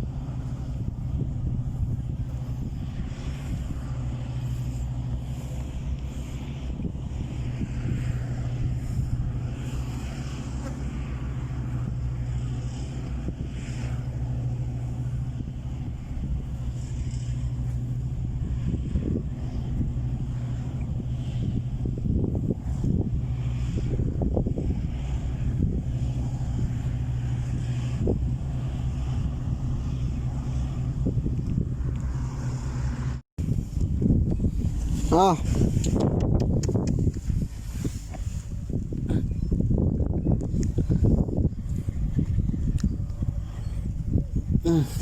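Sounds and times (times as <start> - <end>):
low engine hum: 0.0 - 45.0
wind noise: 0.0 - 45.0.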